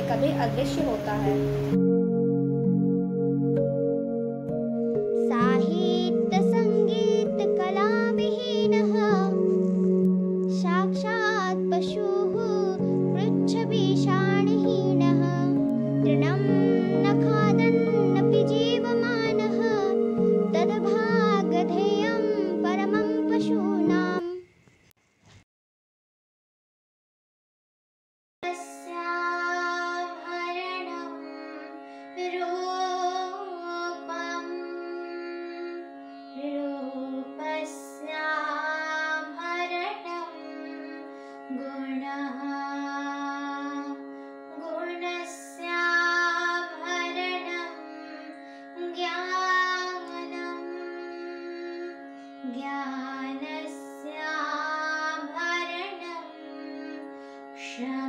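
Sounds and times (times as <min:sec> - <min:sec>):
girl singing: 0:05.1 - 0:09.8, 0:10.4 - 0:24.5, 0:28.4 - 0:35.8, 0:36.4 - 0:58.0.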